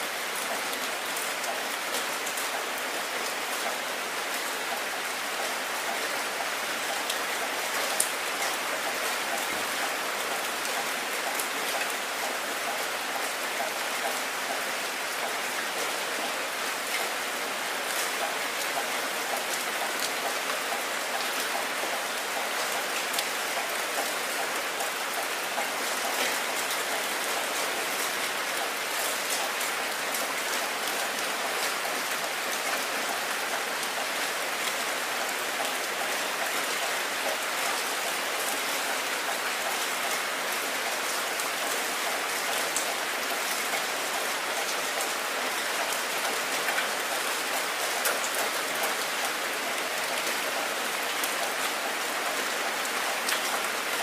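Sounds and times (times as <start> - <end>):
heavy rain on wet surface: 0.0 - 54.0.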